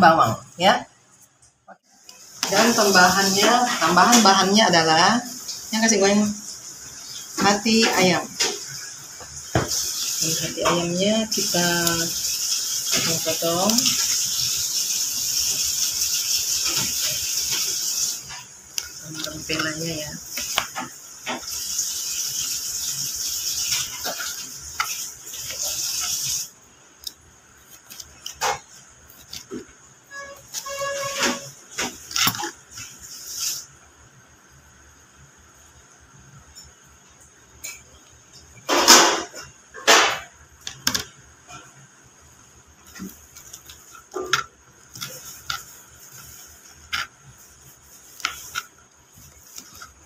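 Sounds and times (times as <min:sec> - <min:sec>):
steady high hiss: 0:01.3 - 0:50.0.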